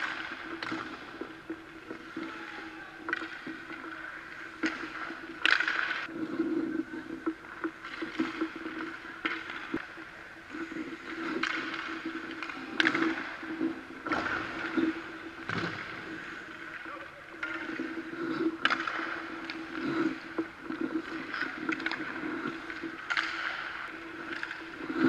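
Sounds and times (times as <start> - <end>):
skates scraping ice: 0.0 - 25.0
steady low hum: 0.0 - 25.0.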